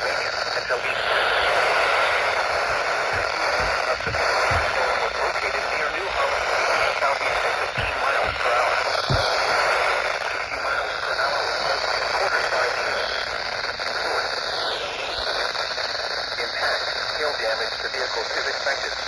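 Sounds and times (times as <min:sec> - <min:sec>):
faint broadcast voice: 0:00.0 - 0:15.6, 0:16.2 - 0:19.0
radio static hiss: 0:00.0 - 0:19.0.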